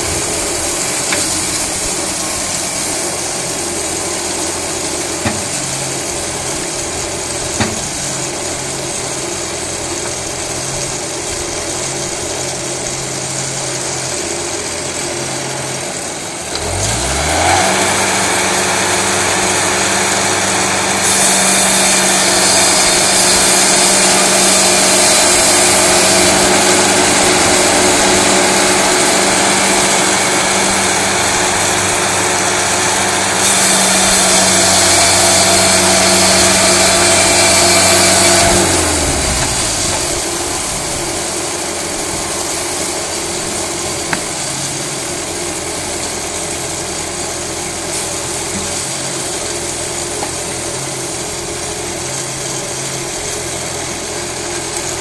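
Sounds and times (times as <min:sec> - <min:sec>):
band blade sawing through log: 0:00.0 - 0:14.1, 0:16.5 - 0:54.1
sawmill engine idling and revving: 0:00.0 - 0:55.0.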